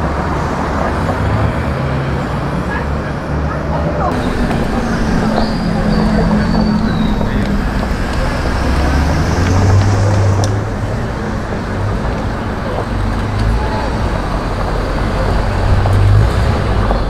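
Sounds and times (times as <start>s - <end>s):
car engines and tyre noise: 0.0s - 17.0s
vehicle passing with deep engine: 0.0s - 17.0s.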